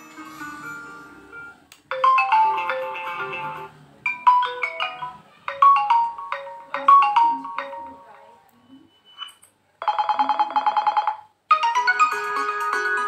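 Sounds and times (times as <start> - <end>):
phone ringtone melody: 0.0 - 13.0.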